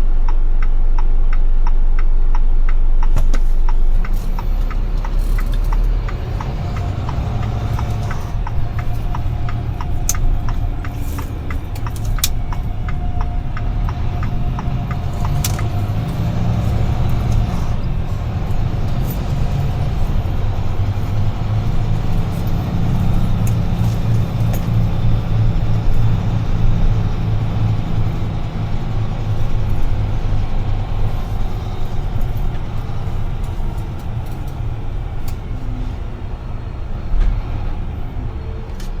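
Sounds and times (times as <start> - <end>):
diesel engine humming: 0.0 - 39.0
turn signal ticking: 0.0 - 39.0.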